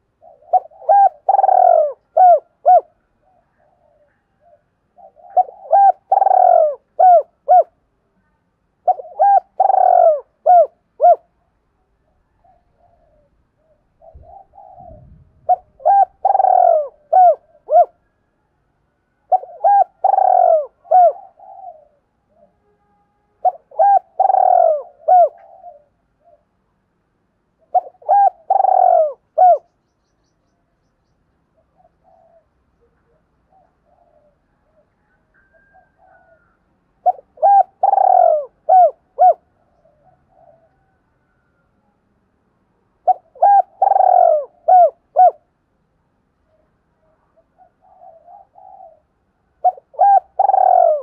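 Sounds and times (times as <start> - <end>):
dove cooing: 0.0 - 7.8, 8.8 - 11.5, 12.1 - 18.2, 19.2 - 22.6, 23.4 - 26.6, 27.6 - 29.7, 31.6 - 41.7, 43.0 - 45.5, 47.2 - 51.0.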